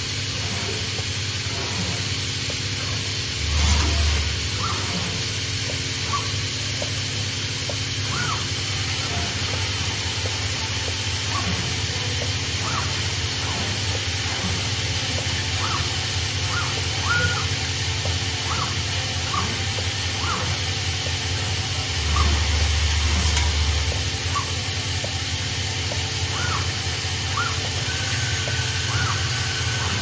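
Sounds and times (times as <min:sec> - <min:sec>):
machine hiss and hum: 0:00.0 - 0:30.0
short mechanical whines: 0:01.4 - 0:30.0.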